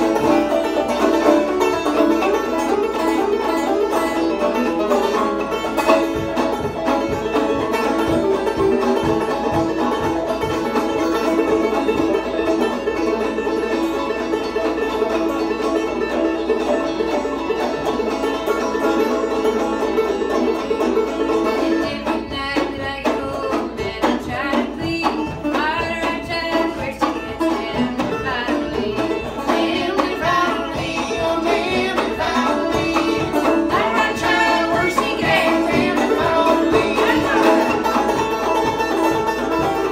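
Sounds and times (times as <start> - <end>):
banjos playing old-time tune: 0.0 - 39.9.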